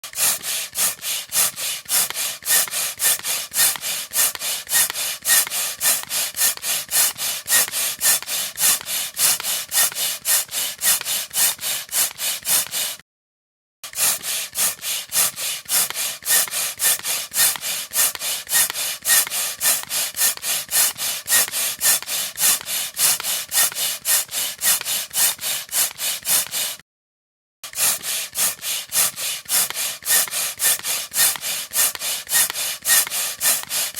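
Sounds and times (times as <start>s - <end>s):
air pump hissing strokes: 0.1s - 13.0s, 13.9s - 26.8s, 27.7s - 33.9s.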